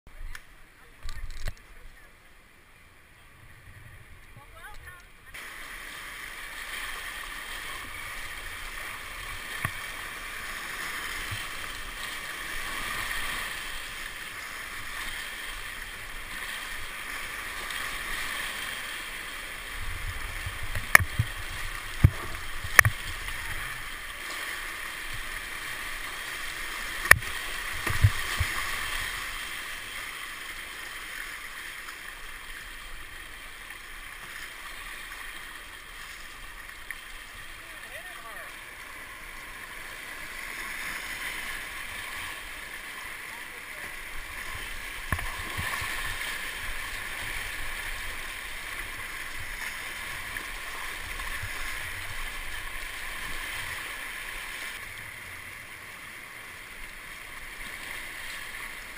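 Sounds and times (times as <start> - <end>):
whitewater rapids rushing: 5.3 - 58.9.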